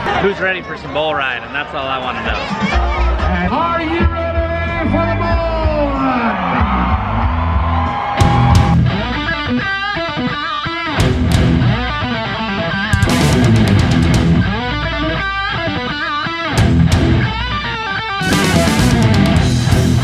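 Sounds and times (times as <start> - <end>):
hard rock music: 2.8 - 20.0.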